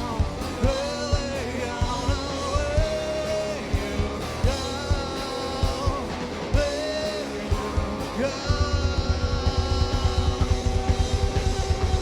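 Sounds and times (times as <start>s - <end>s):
drum beat: 0.0s - 12.0s
live rock band playing: 0.0s - 12.0s.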